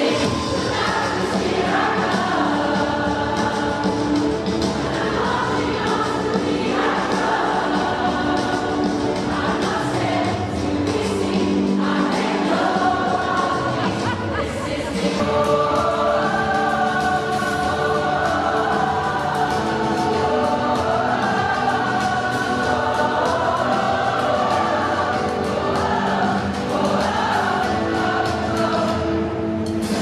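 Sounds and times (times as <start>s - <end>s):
choir singing a pop song: 0.0s - 30.0s.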